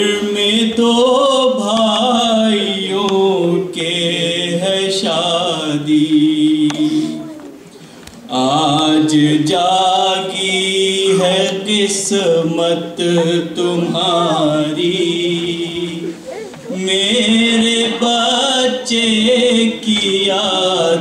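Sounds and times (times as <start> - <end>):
person chanting unaccompanied: 0.0 - 7.6, 8.3 - 21.0.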